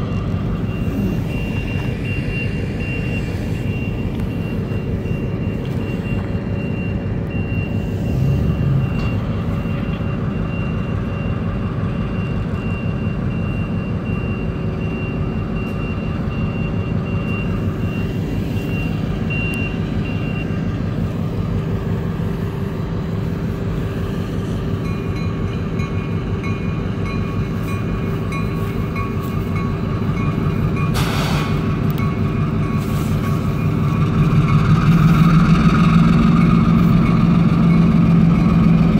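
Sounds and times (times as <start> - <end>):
locomotive engine rumble: 0.0 - 38.9.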